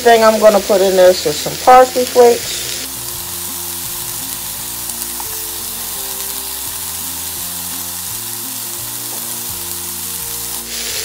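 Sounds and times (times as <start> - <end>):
background music: 0.0 - 11.0
chicken sizzling in a pot: 0.0 - 11.0.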